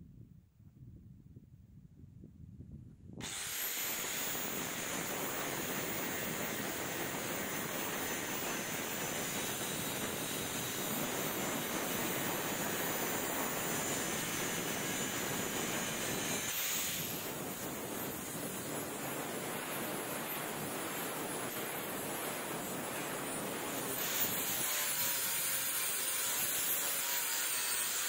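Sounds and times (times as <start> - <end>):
angle grinder grinding steel: 3.2 - 28.0.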